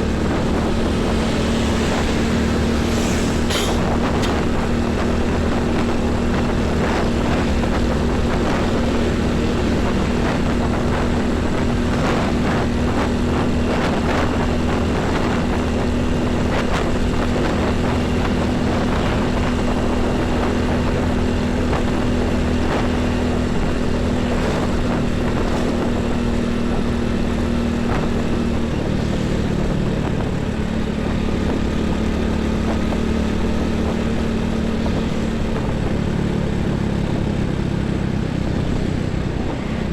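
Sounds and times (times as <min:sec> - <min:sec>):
heavy highway traffic: 0:00.0 - 0:39.9.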